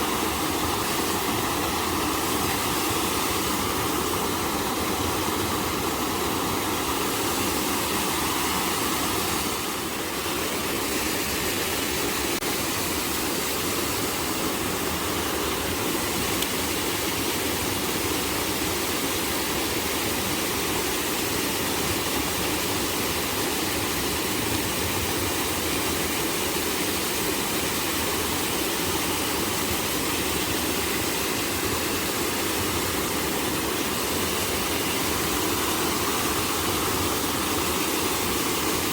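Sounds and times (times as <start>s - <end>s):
water flowing in a stream: 0.0s - 38.9s.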